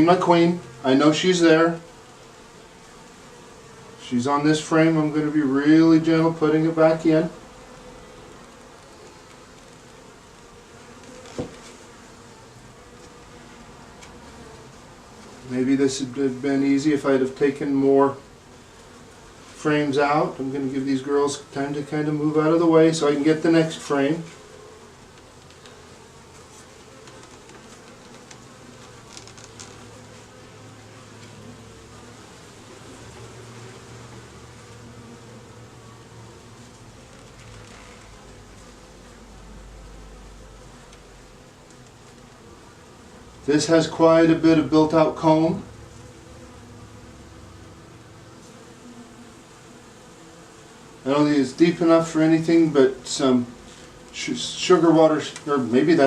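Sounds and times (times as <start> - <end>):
honeybees humming: 0.0 - 56.0.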